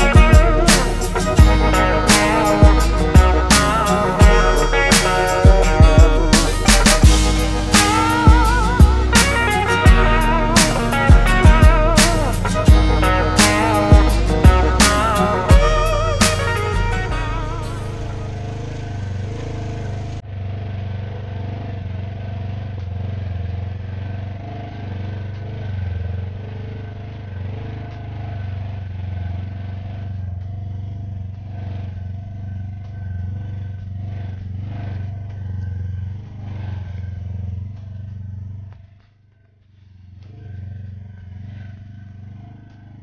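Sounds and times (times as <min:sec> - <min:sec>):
utility vehicle engine running: 0:00.0 - 0:43.0.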